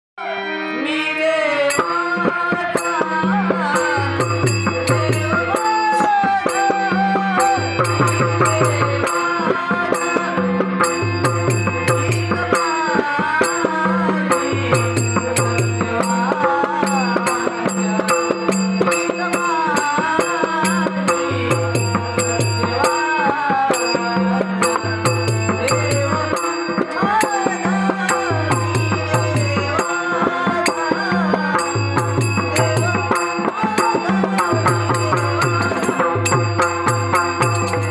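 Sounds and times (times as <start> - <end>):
man singing devotional song: 0.2 - 37.9.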